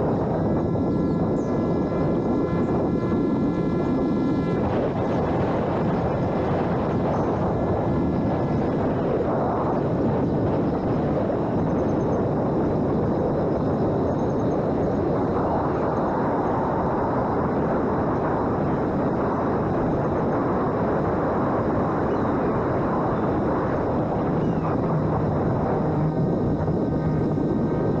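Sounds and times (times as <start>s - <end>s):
high motor whine: 0.0s - 28.0s
propeller and airflow rush: 0.0s - 28.0s.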